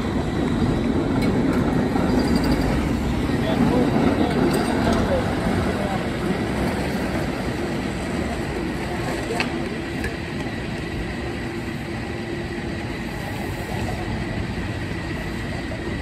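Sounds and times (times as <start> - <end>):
cable car rumble: 0.0 - 16.0.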